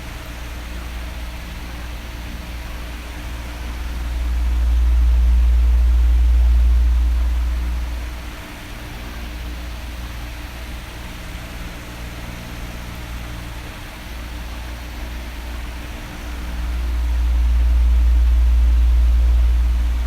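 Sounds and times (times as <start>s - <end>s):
electric fan running: 0.0s - 20.0s.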